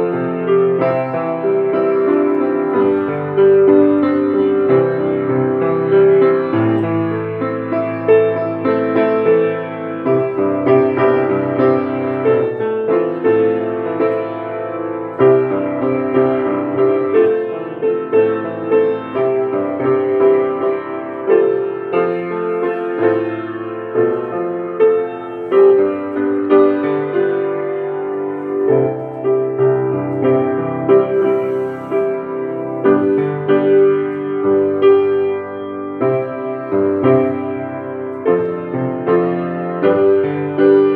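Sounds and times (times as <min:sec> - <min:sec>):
slow piano melody: 0:00.0 - 0:40.9.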